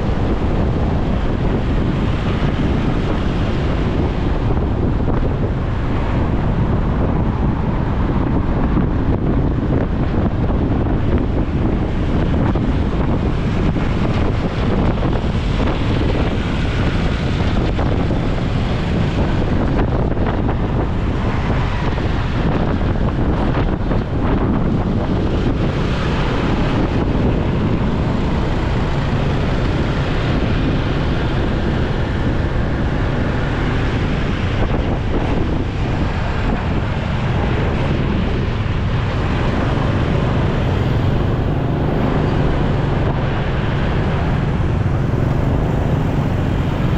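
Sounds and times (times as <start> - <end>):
road traffic: 0.0 - 46.9
wind buffeting microphone: 0.0 - 46.9
motorcycle engine running: 9.3 - 46.9.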